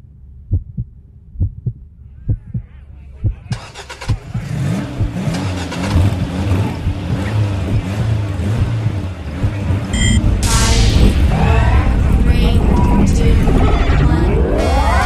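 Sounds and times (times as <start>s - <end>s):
deep heartbeat-like thumps: 0.0s - 14.6s
car engine revving: 2.6s - 15.0s.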